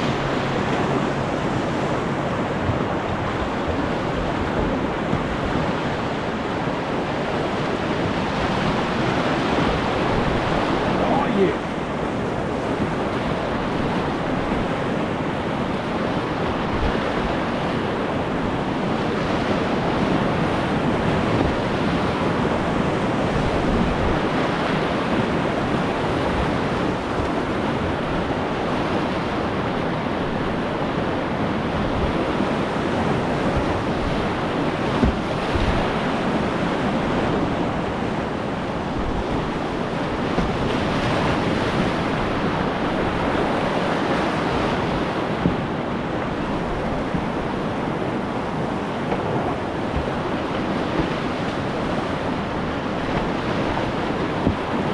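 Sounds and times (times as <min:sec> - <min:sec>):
river whitewater rushing: 0:00.0 - 0:54.9
wind buffeting microphone: 0:00.0 - 0:54.9.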